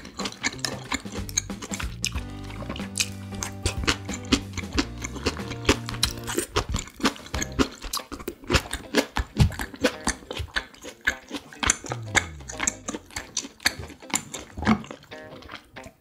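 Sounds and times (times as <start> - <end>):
close chewing with mouth smacks: 0.0 - 16.0.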